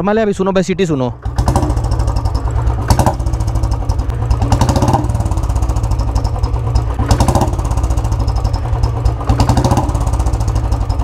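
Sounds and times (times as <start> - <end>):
motorcycle engine running: 1.2 - 11.0.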